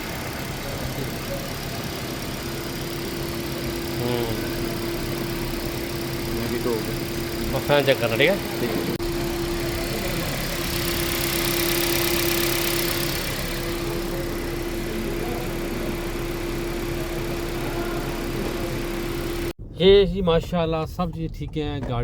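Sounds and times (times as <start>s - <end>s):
car engine idling hum: 0.0s - 22.0s.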